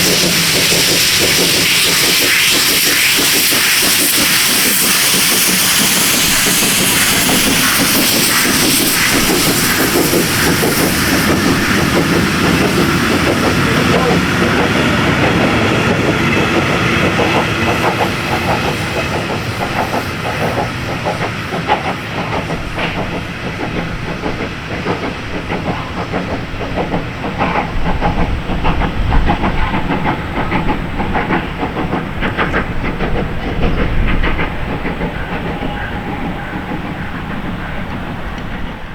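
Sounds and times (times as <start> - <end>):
locomotive steam hissing: 0.0 - 38.9
train wheels clicking over rail joints: 0.0 - 38.9.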